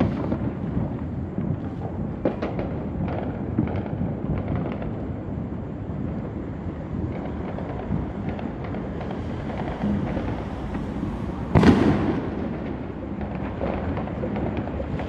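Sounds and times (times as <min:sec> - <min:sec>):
distant fireworks rumbling booms: 0:00.0 - 0:15.0
fireworks pops and crackles: 0:00.0 - 0:15.0.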